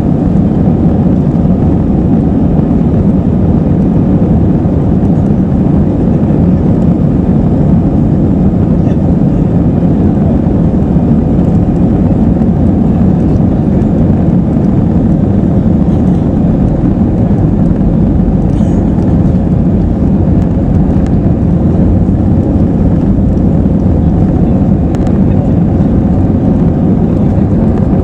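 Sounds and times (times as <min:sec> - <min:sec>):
air rushing past aircraft: 0:00.0 - 0:28.0
jet engines humming: 0:00.0 - 0:28.0.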